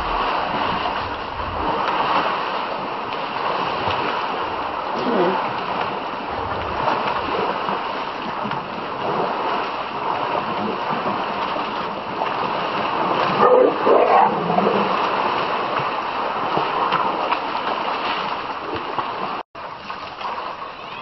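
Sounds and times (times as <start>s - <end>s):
elephants splashing in water: 0.0s - 21.0s.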